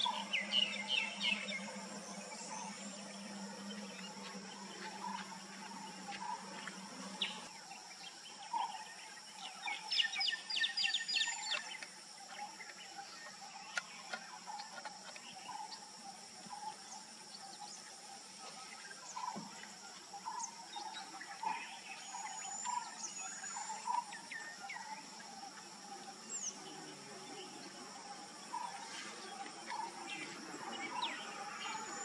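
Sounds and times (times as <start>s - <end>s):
bird calls: 0.0s - 32.0s.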